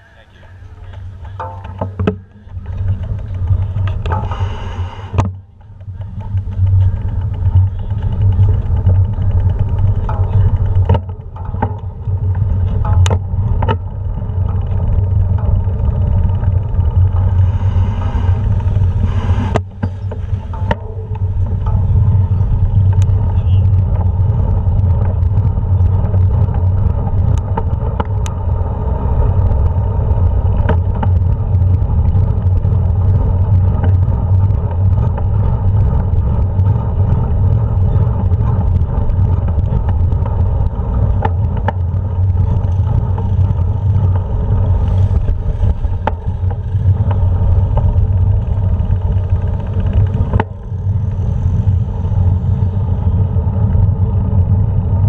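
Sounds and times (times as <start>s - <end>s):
wheels rolling over cobblestones: 0.0s - 55.0s
sharp clicks and knocks: 0.8s - 51.2s.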